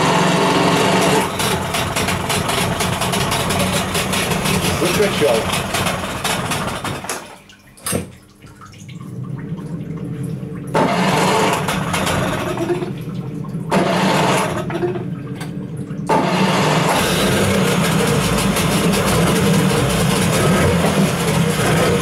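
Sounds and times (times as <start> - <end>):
outboard motor cranking and running: 0.0 - 7.3, 10.7 - 13.0, 13.6 - 22.0.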